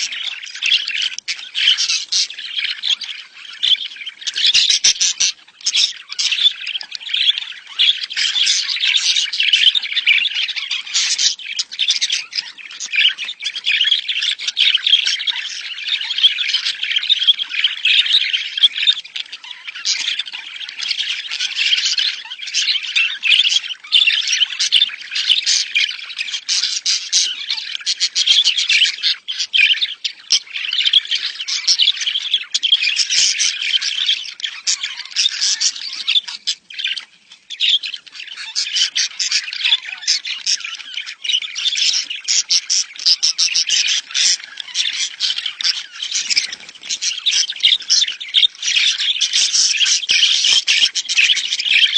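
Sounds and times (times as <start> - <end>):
budgerigars chattering: 0.0 - 51.9.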